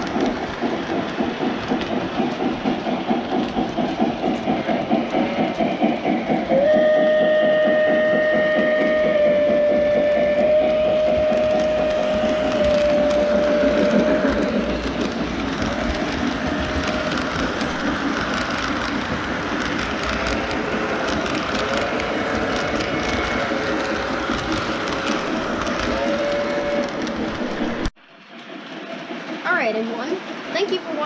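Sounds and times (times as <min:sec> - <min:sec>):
model train rumbling: 0:00.0 - 0:31.0
wheels clicking over track: 0:00.0 - 0:31.0.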